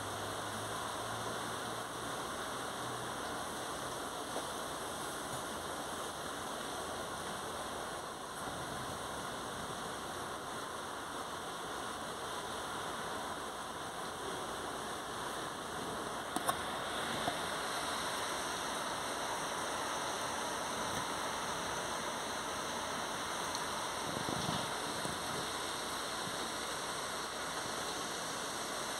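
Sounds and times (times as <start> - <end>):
steady rain: 0.0 - 28.9.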